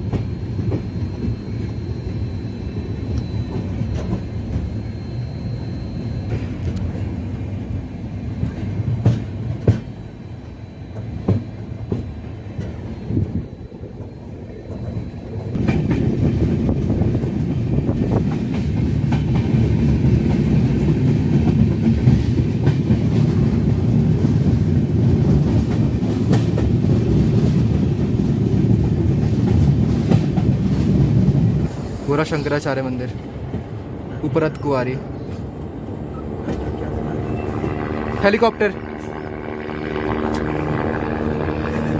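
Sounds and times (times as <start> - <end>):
train coaches rumbling: 0.0 - 41.9.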